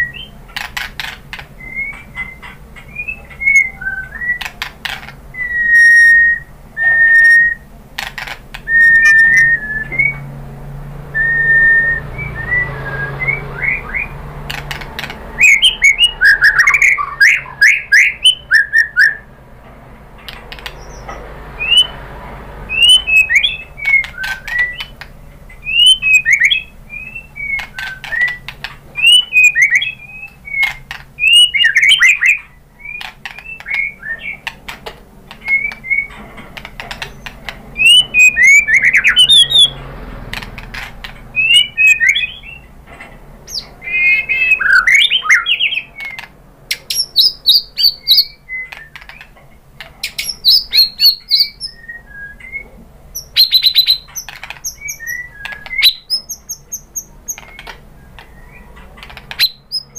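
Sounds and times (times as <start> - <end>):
songbird singing whistles and chatter: 0.0 - 10.4, 11.1 - 19.3, 20.3 - 22.0, 22.7 - 39.8, 40.4 - 42.7, 43.5 - 49.4, 50.0 - 59.9.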